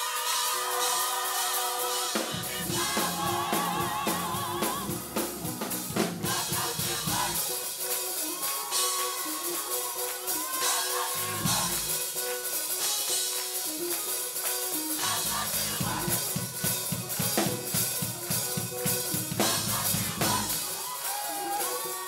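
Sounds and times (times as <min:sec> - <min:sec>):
gospel music: 0:00.0 - 0:22.0
drum kit hits: 0:00.1 - 0:20.8.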